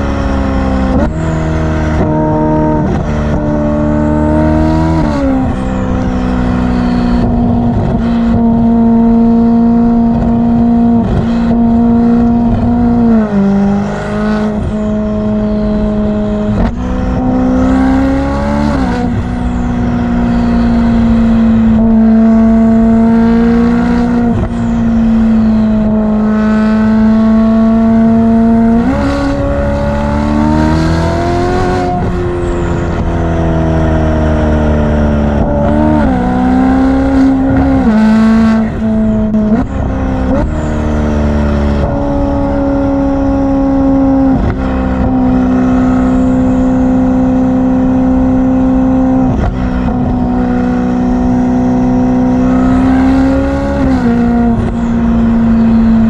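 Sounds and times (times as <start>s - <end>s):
car exhaust droning: 0.0s - 56.0s.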